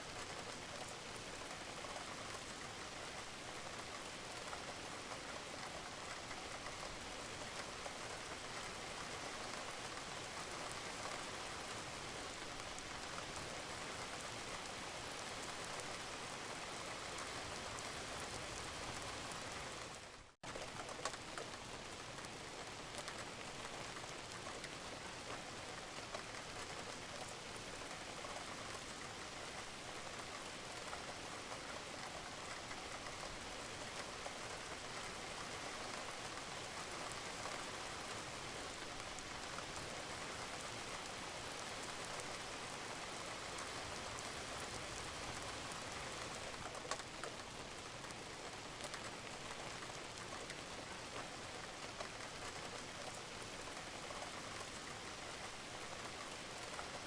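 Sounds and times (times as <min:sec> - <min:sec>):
rain on a roof: 0:00.0 - 0:57.0
raindrops ticking: 0:00.1 - 0:57.0.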